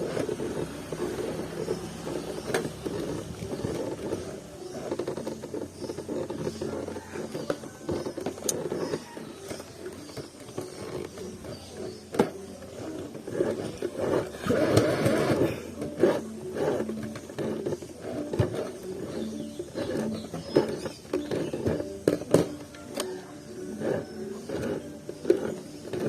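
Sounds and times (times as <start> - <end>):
sewing machine motor running: 0.0 - 26.0.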